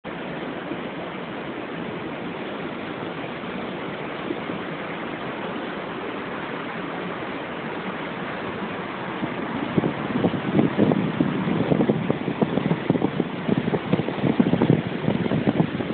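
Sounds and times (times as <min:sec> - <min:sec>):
creek water rushing over rocks: 0:00.1 - 0:15.9.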